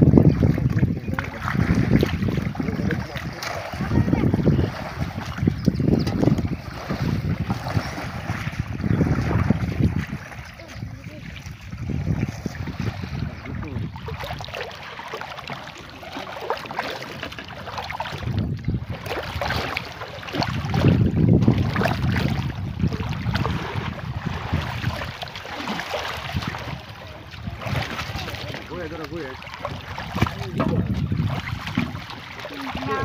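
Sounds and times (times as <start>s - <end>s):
shallow water splashing: 0.0s - 33.0s.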